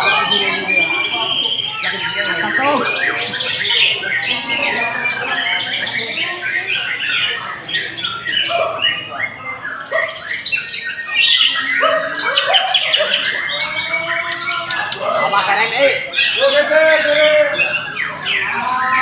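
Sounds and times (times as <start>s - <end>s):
songbirds singing and calling: 0.0s - 19.0s.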